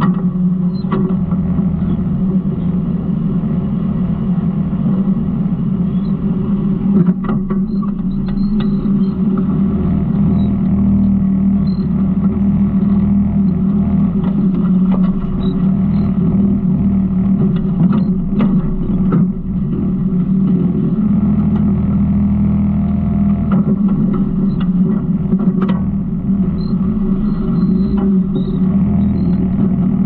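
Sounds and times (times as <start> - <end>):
garbage truck engine running: 0.0 - 30.0.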